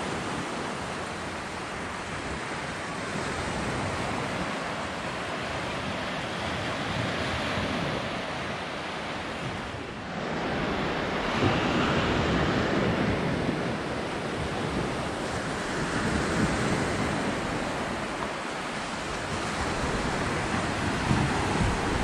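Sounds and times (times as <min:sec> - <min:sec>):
waves washing up beach: 0:00.0 - 0:22.0
wind noise on microphone: 0:00.0 - 0:22.0.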